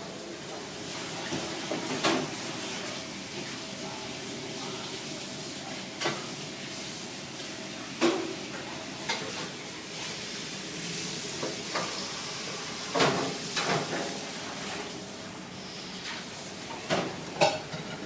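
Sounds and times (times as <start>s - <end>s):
food sizzling in a pan: 0.1s - 18.0s.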